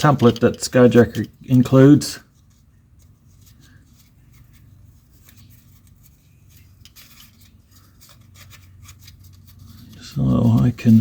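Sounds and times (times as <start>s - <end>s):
low steady hum: 0.0s - 11.0s
paper rustling: 0.0s - 11.0s.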